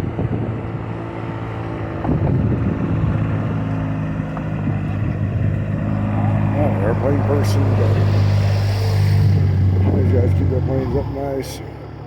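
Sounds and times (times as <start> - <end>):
wind buffeting microphone: 0.0 - 11.4
engine drone: 0.0 - 12.0.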